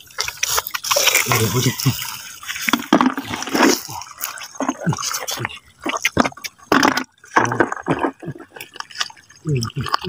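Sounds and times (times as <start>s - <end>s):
shallow water splashing: 0.0s - 10.0s.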